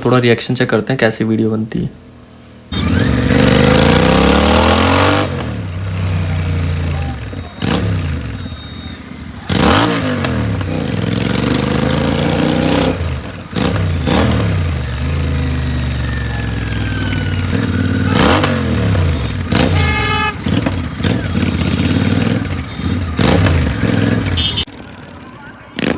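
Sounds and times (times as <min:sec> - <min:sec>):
motorcycle engine revving: 0:02.1 - 0:25.9.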